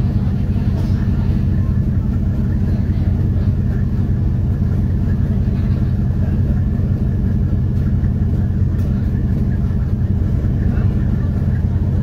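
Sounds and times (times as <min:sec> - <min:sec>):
ferry engines rumbling: 0:00.0 - 0:12.0.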